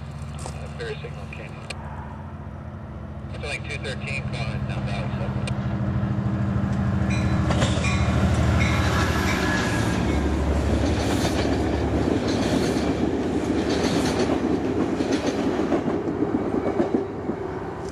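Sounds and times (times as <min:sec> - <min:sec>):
train wheels rumbling and clicking: 0:00.0 - 0:02.0, 0:03.3 - 0:17.9
locomotive engine hum: 0:00.0 - 0:17.9.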